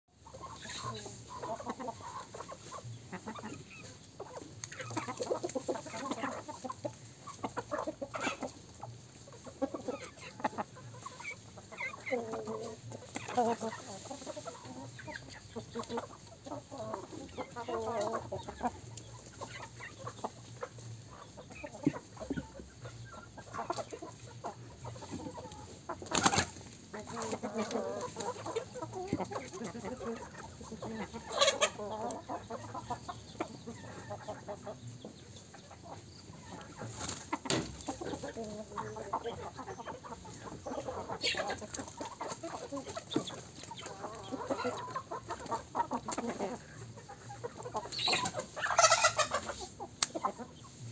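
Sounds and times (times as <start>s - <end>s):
chickens clucking: 0.1s - 50.9s.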